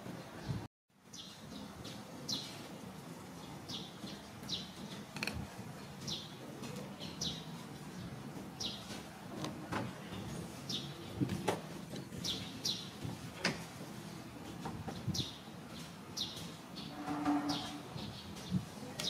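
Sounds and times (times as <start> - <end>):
steady outdoor hum: 0.0 - 19.0.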